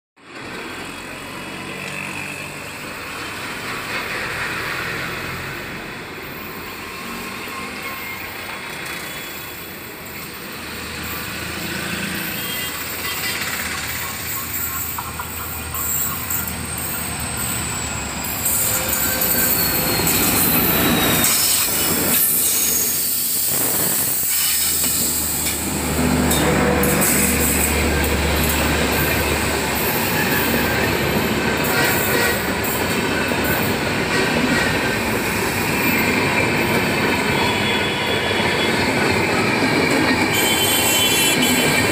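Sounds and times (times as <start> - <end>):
diesel locomotive running: 0.2 - 41.9
high whine from train wheels: 0.3 - 41.9.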